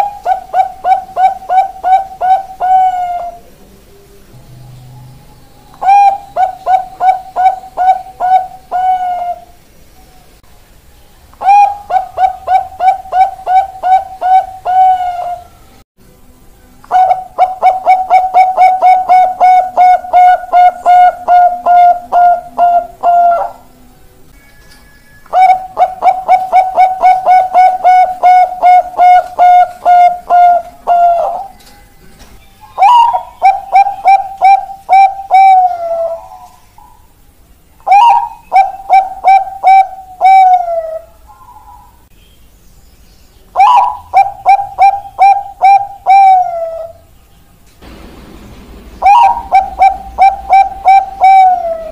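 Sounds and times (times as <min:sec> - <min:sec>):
doves cooing: 0:00.0 - 0:03.6, 0:05.7 - 0:09.6, 0:11.4 - 0:15.6, 0:16.9 - 0:23.7, 0:25.3 - 0:31.6, 0:32.2 - 0:37.2, 0:37.8 - 0:42.1, 0:43.6 - 0:47.1, 0:47.9 - 0:51.9.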